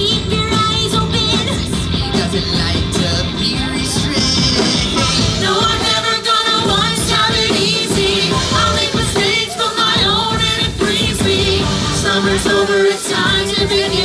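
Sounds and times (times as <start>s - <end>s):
drums: 0.0s - 14.0s
people singing into microphones: 2.0s - 14.0s.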